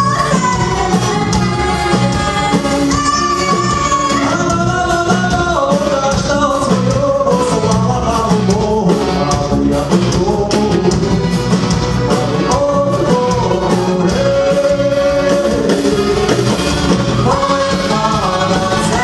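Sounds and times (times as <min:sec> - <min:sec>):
person singing: 0:00.0 - 0:11.4, 0:12.0 - 0:16.4, 0:17.2 - 0:19.0
drums: 0:00.0 - 0:19.0
electric guitar: 0:00.0 - 0:19.0.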